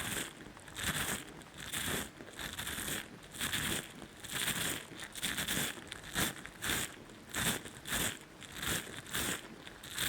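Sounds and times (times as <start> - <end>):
crackly scratching on microphone: 0.0 - 10.0.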